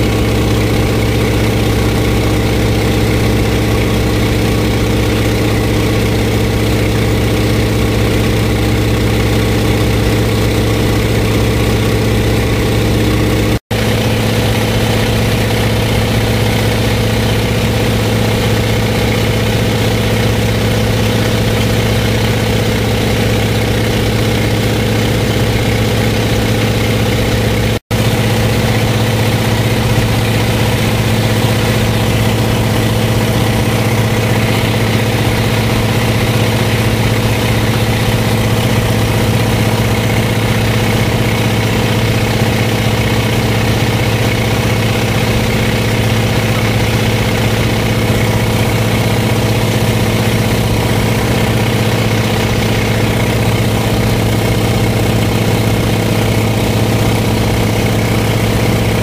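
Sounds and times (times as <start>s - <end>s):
plane engine droning: 0.0s - 59.0s.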